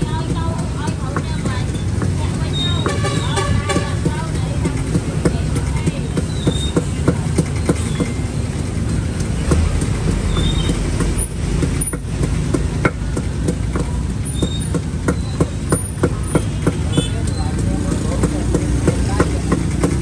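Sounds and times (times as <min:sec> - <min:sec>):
sharp clicks and knocks: 0:00.0 - 0:20.0
traffic rumble: 0:00.0 - 0:20.0.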